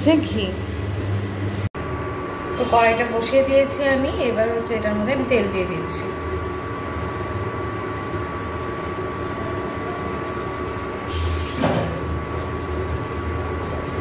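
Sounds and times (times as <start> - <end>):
cooling fan whirring: 0.0 - 14.0
thin electrical whine: 1.8 - 14.0.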